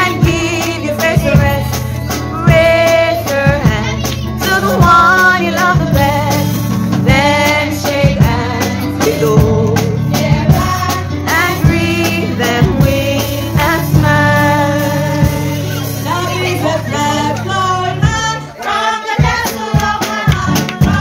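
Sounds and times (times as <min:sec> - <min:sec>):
instrumental accompaniment: 0:00.0 - 0:21.0
woman singing gospel song: 0:00.0 - 0:21.0.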